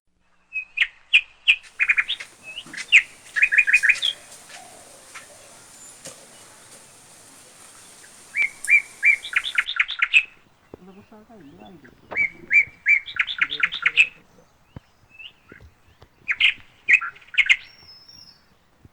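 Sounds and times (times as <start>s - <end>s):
bird chirping: 1.6s - 18.8s.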